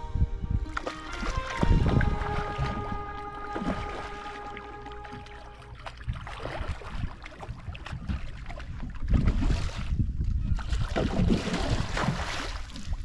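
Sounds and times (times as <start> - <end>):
wind rumble on microphone: 0.0 - 13.0
water splashing: 0.6 - 13.0.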